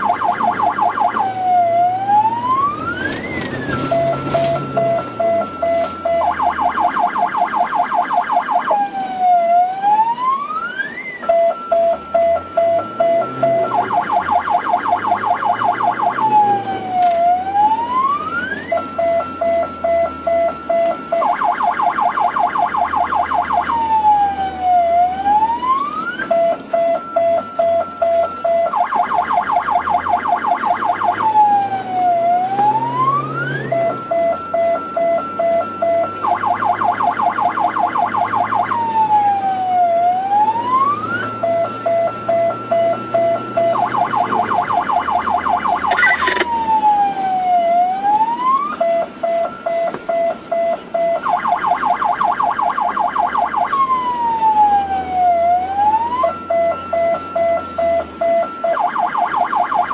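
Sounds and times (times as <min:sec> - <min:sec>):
electronic siren: 0:00.0 - 0:59.9.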